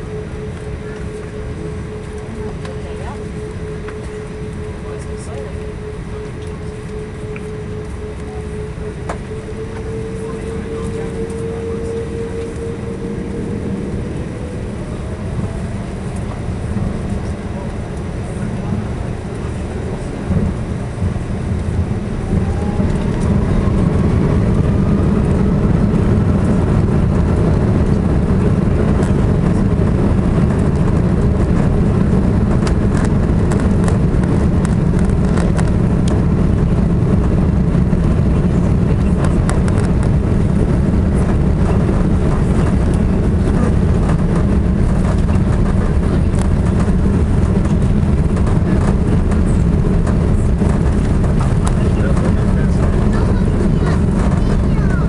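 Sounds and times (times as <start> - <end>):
airliner rolling rumble: 0.0 - 55.0
jet engines spooling up: 0.0 - 55.0.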